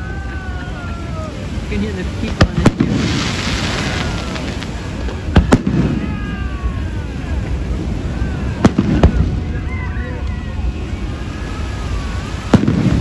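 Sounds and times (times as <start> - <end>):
background noise: 0.0 - 13.0
fireworks bangs: 1.7 - 13.0.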